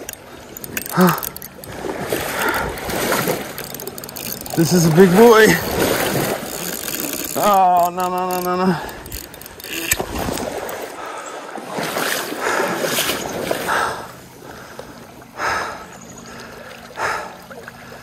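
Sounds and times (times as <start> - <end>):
stream running and splashing: 0.0 - 18.0.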